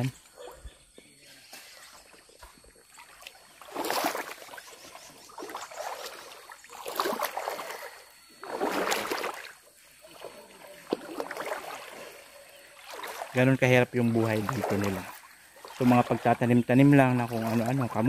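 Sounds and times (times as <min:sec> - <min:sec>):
feet wading through water: 0:00.0 - 0:18.0.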